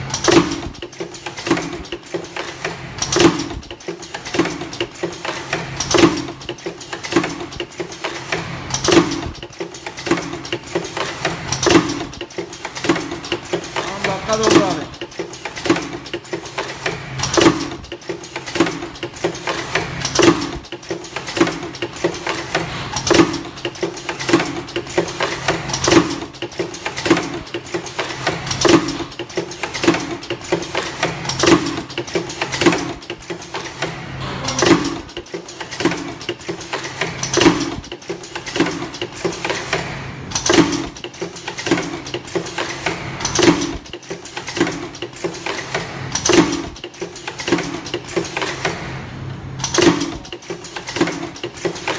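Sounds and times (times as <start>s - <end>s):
steady machine hum: 0.0s - 46.3s
pneumatic cylinders clacking: 0.0s - 51.9s.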